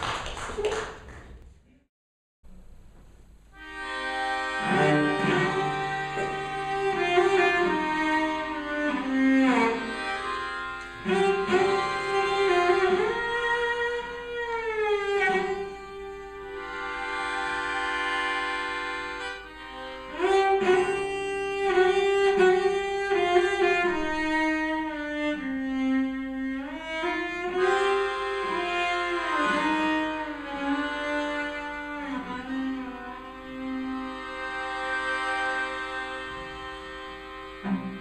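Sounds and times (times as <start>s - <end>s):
melodica notes: 3.5s - 38.0s
bowed cello: 3.7s - 38.0s.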